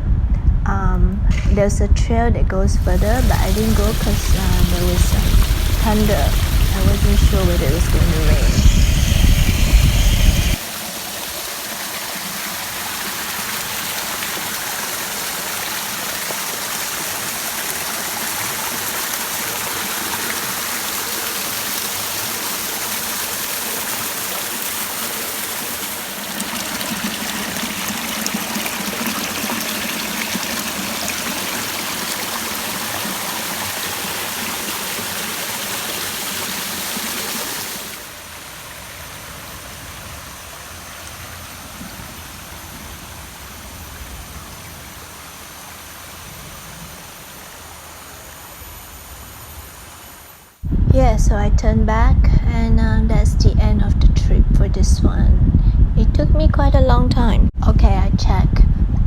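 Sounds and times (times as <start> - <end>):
waterfall and stream rushing: 2.8 - 50.6.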